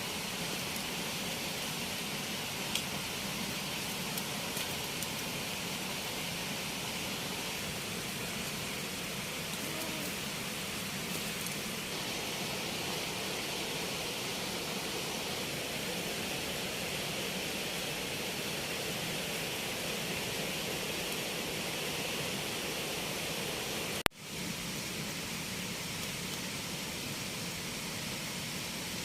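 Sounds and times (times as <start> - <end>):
steady hissing: 0.0 - 29.0.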